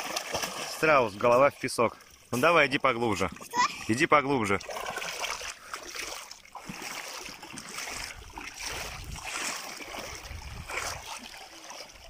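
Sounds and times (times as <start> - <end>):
water splashing around legs: 0.0 - 12.0.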